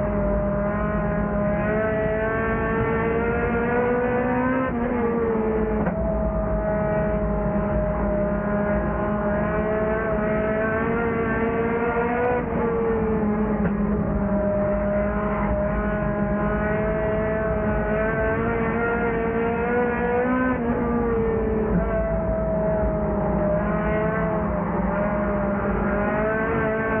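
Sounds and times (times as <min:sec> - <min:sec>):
race car engine running hard: 0:00.0 - 0:27.0.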